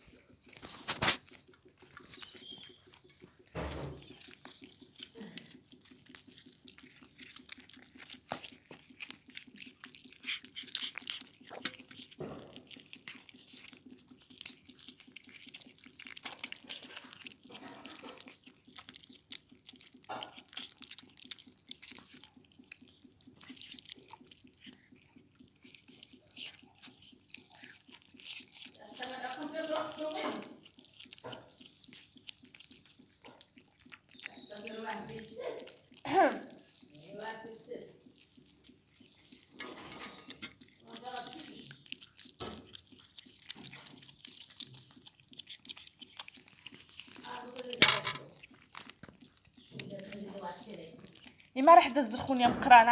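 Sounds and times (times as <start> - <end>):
kittens chewing wetly: 0.0 - 52.9.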